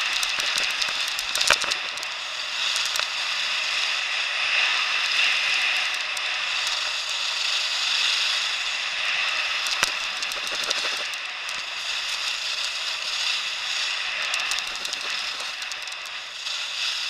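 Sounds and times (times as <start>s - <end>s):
skis scraping over snow: 0.0s - 17.0s.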